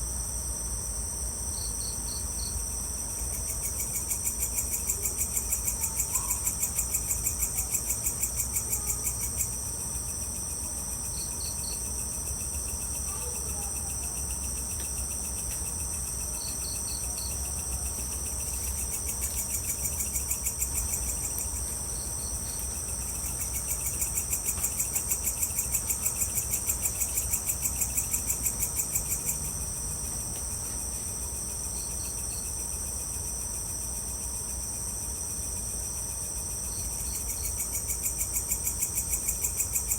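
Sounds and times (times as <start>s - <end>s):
fast-pulsing insect trill: 1.5s - 30.2s, 30.8s - 39.9s.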